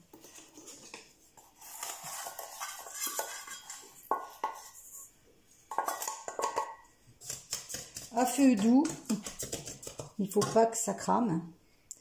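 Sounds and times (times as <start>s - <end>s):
utensil scraping in a saucepan: 0.0s - 10.8s.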